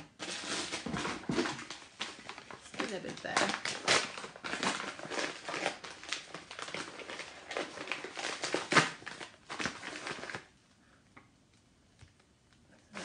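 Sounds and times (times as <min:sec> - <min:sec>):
wrapping crinkling and rustling: 0:00.0 - 0:10.6.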